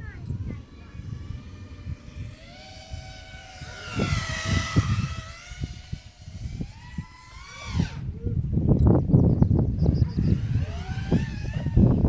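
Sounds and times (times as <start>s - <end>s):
low rumbles: 0.0s - 12.0s
quadcopter motors whining: 0.0s - 12.0s.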